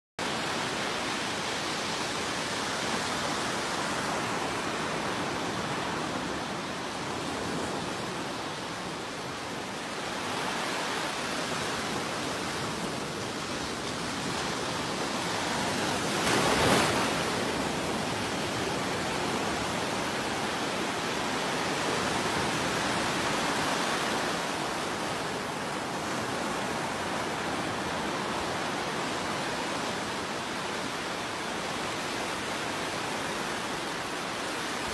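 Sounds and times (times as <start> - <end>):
ocean surf breaking: 0.3 - 34.9.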